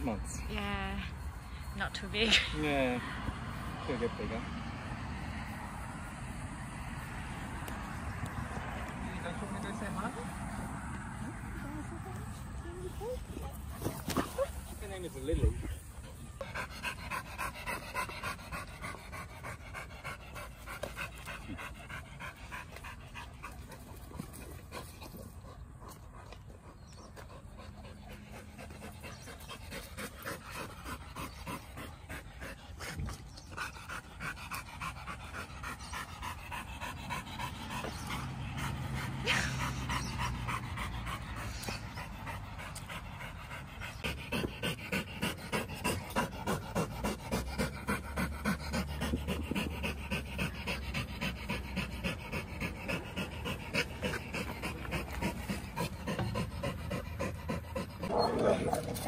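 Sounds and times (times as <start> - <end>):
dogs panting: 0.0 - 59.0.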